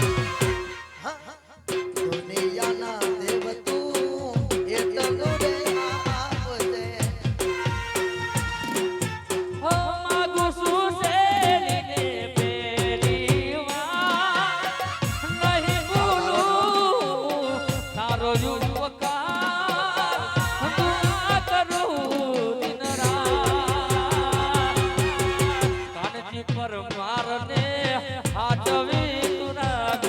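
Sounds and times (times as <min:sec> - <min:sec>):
quick percussion beat: 0:00.0 - 0:01.0, 0:01.7 - 0:30.0.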